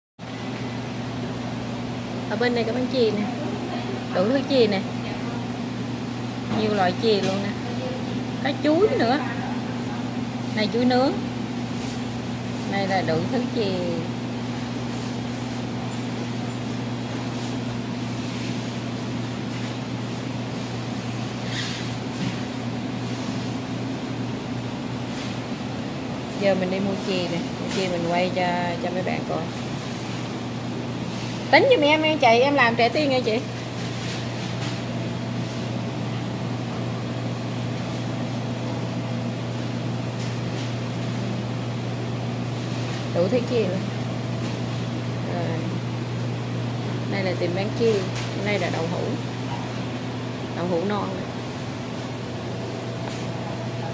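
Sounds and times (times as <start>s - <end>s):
low mechanical hum: 0.2s - 53.9s.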